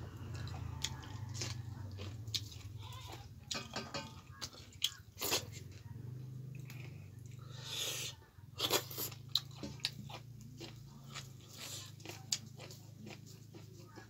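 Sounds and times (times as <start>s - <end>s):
person chewing and crunching: 0.1s - 14.0s.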